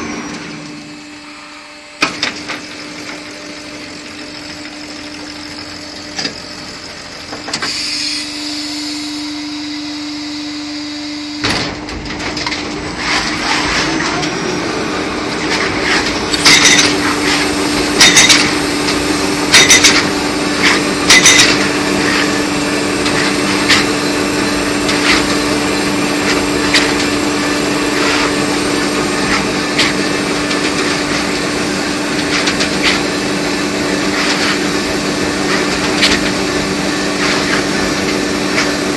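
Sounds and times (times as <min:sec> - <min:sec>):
packaging machine humming: 0:00.0 - 0:38.9.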